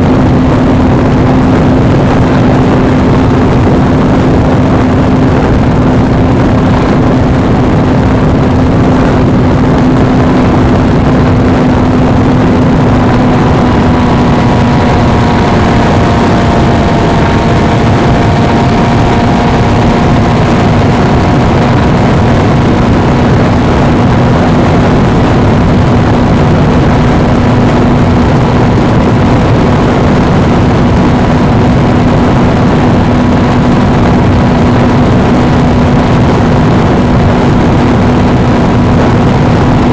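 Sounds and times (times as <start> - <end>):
motorcycle engine droning: 0.0 - 39.9
wind noise on microphone: 0.0 - 39.9.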